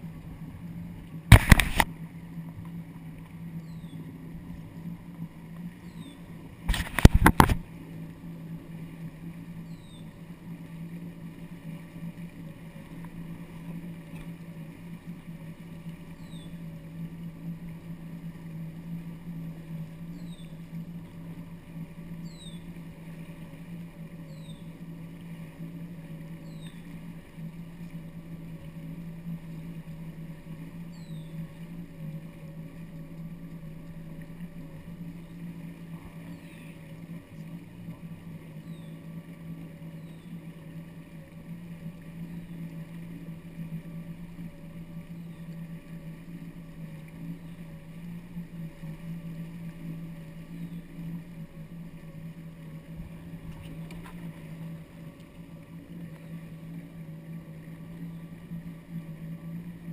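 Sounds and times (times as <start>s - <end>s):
jet ski engine droning: 0.0s - 59.9s
water washing along hull: 0.0s - 59.9s.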